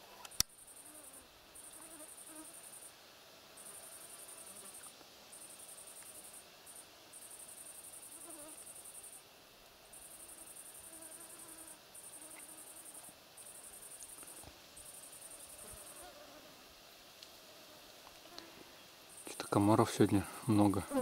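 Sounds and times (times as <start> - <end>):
insect chirring: 0.2 - 3.0, 3.6 - 9.2, 9.8 - 16.2, 18.0 - 21.0.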